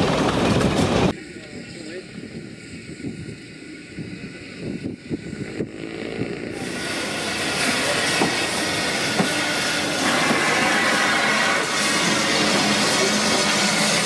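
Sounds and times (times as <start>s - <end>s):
diesel railcar rumbling: 0.0s - 14.0s.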